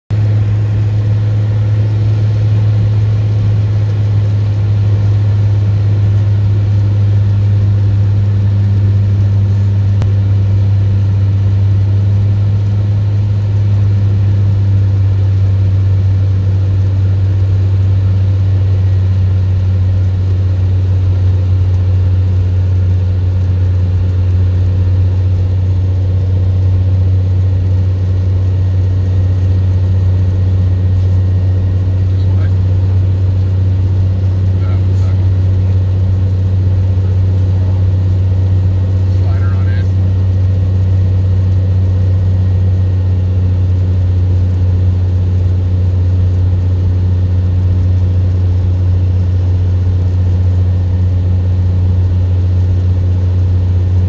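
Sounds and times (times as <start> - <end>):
airplane engine drone in cockpit: 0.1 - 54.0.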